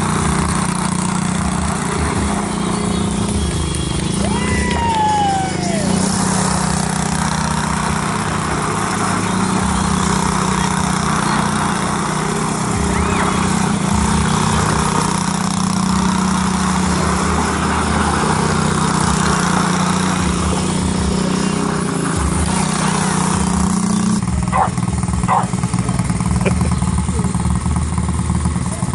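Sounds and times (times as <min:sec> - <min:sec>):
quad bike engine running: 0:00.0 - 0:28.9.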